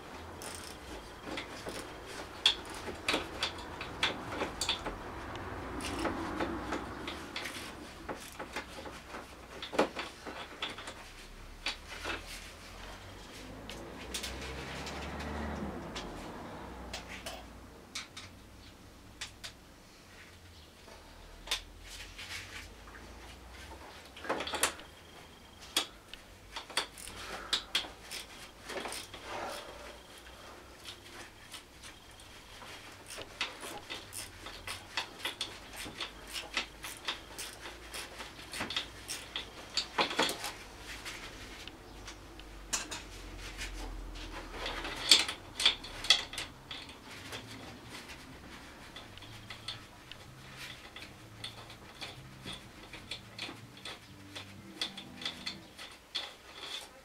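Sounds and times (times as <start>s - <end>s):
metal tools clicking and clinking: 0.3s - 15.2s, 23.9s - 57.0s.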